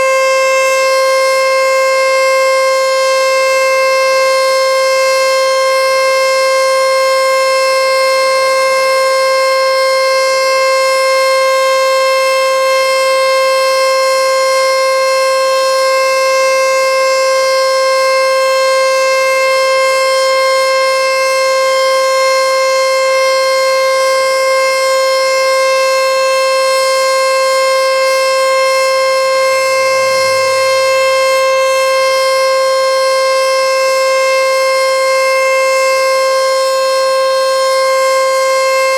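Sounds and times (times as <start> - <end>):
steady warning siren tone: 0.0 - 38.9.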